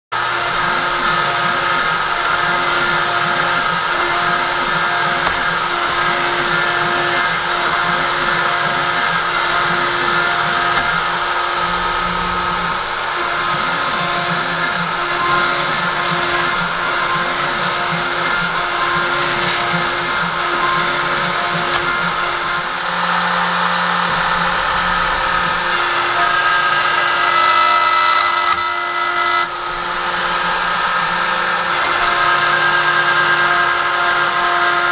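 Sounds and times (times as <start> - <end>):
router spindle whining: 0.1 - 34.9
stepper motors rising and falling: 0.2 - 34.9.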